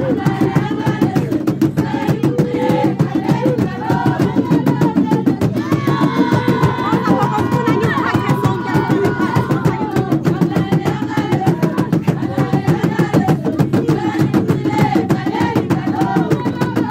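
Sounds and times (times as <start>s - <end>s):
fast drumbeat: 0.0s - 16.9s
women singing together: 0.0s - 16.9s.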